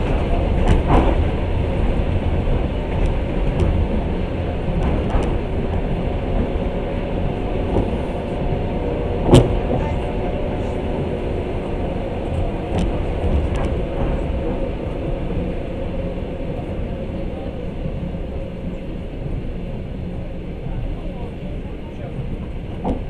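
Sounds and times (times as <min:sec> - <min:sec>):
wheels rumbling on rails: 0:00.0 - 0:23.0.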